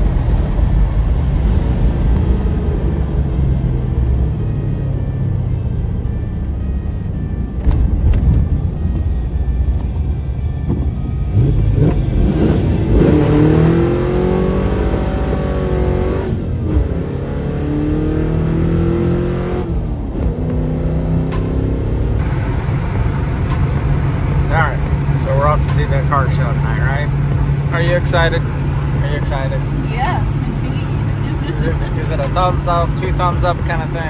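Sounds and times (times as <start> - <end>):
car engine rumbling and revving: 0.0 - 34.0.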